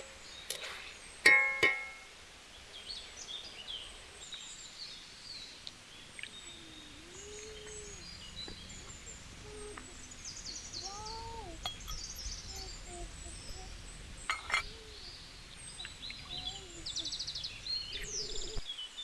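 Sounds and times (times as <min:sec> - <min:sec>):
birds chirping and trilling: 0:00.0 - 0:19.0
faint outdoor background: 0:00.0 - 0:19.0
low rising and falling bird calls: 0:02.7 - 0:18.7.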